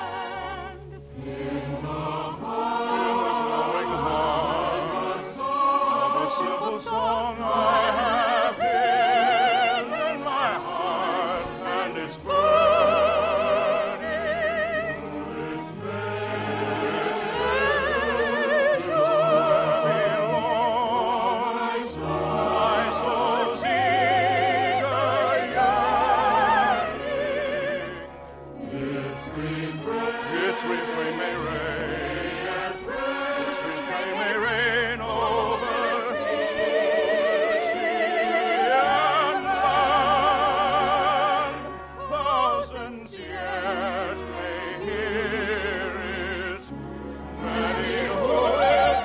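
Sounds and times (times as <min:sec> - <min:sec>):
operatic singing with vibrato: 0:00.0 - 0:49.0
orchestra playing: 0:00.0 - 0:49.0.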